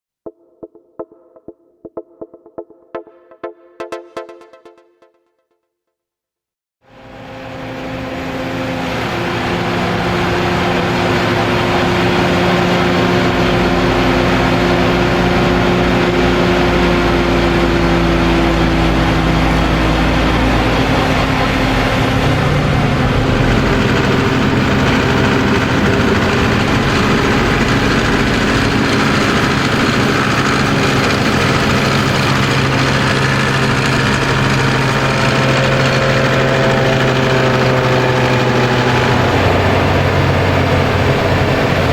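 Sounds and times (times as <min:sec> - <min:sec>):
dense mechanical noise: 0:06.9 - 0:41.9
tractor diesel engines running: 0:06.9 - 0:41.9.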